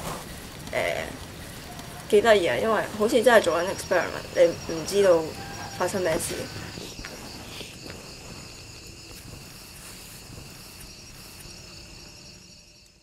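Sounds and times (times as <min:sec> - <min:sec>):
insects singing drone: 0:00.0 - 0:13.0.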